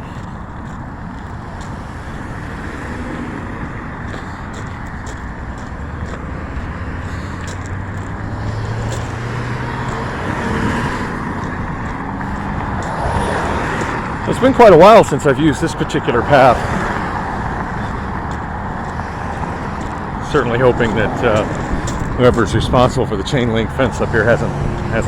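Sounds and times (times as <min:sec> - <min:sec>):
road traffic noise: 0:00.0 - 0:25.0
vehicle engine passing: 0:00.0 - 0:25.0.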